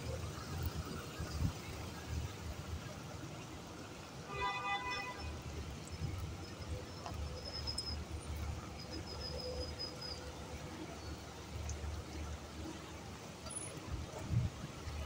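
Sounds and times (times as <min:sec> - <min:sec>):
slow traffic rumble: 0:00.0 - 0:15.0.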